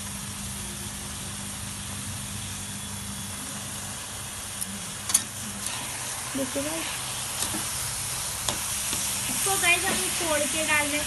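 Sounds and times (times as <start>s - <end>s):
gas stove hissing: 0.0s - 11.0s.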